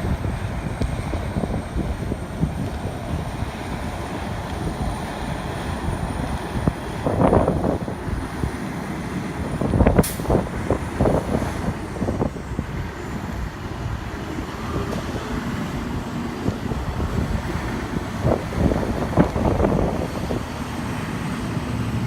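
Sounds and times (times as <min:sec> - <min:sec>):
heavy vehicle engine rumble: 0:00.0 - 0:22.0.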